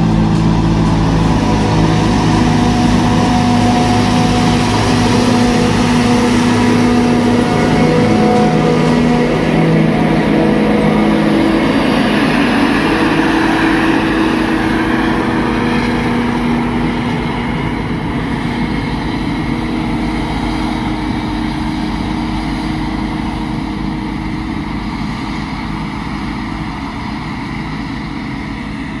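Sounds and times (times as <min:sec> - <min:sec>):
heavy diesel engine: 0:00.0 - 0:29.0.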